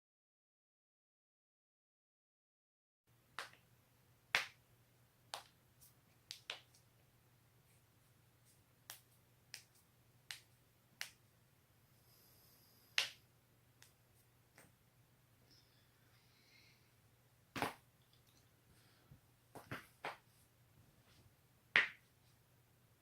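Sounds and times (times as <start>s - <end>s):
faint low steady hum: 3.1s - 23.0s.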